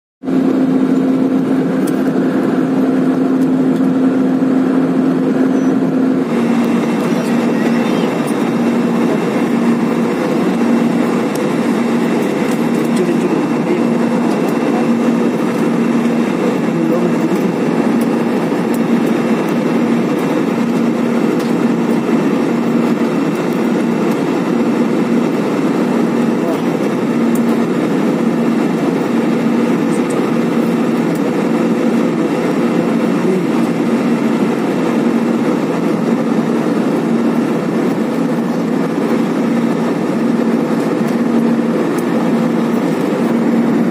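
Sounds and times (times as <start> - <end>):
airliner cabin engine and airflow rush: 0.2 - 43.9
low hum: 0.3 - 43.9.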